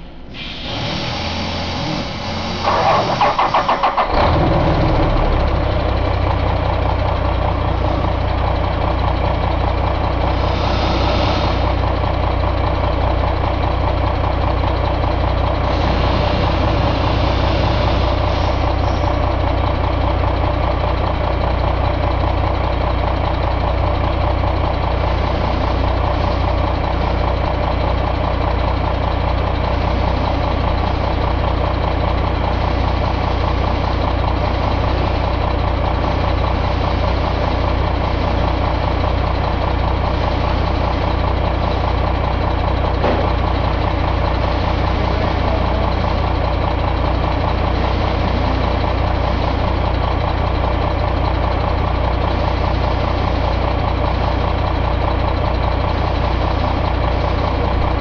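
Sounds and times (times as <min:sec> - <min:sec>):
diesel engine cranking: 0:00.0 - 0:58.0
diesel engine idling: 0:00.0 - 0:58.0.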